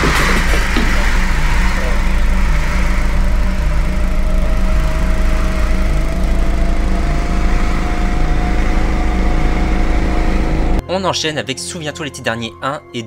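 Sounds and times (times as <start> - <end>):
small motor rattling: 0.0 - 10.8
faint rising tone: 0.1 - 10.8.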